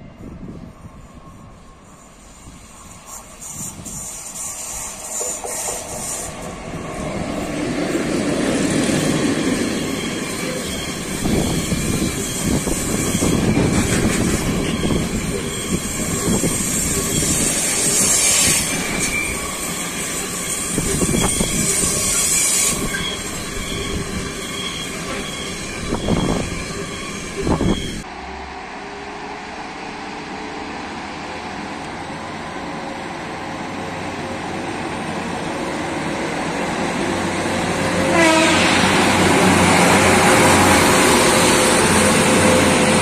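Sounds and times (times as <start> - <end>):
train wheels squealing: 0.0 - 28.1, 35.7 - 43.0
freight train rolling past: 0.0 - 43.0.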